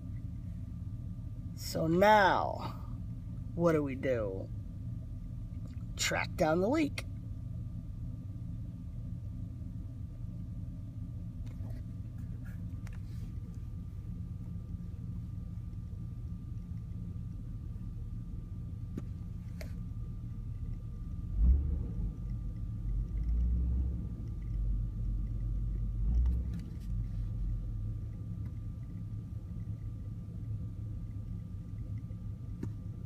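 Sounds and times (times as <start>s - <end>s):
faint steady whine: 0.0s - 33.0s
heavy low rumble: 0.0s - 33.0s.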